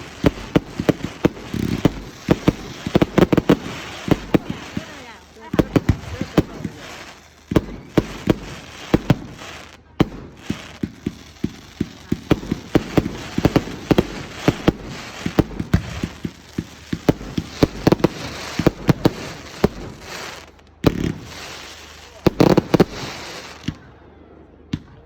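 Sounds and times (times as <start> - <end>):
fireworks bangs: 0.0 - 23.9
fireworks crackling: 0.0 - 23.9.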